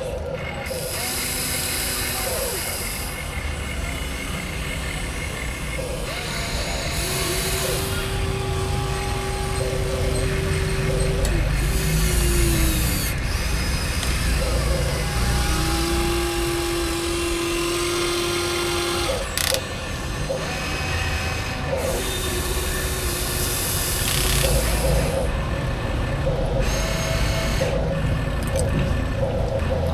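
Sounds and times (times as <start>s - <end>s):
toy electric motors whining: 0.0s - 29.9s.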